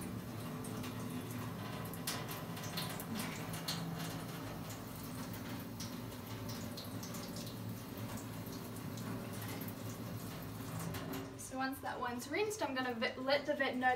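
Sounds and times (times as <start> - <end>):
tap water running into sink: 0.0 - 12.9.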